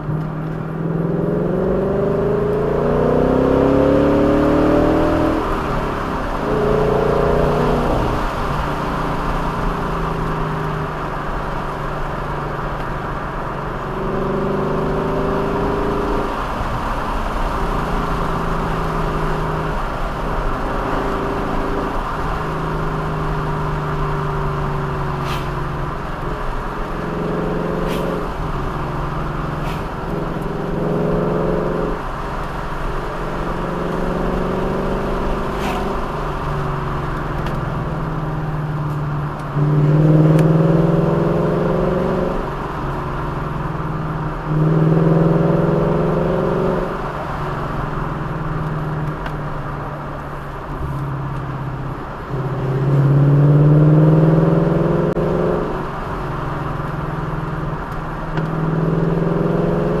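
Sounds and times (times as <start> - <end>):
road and wind noise: 0.0 - 60.0
vehicle engine accelerating: 0.0 - 60.0.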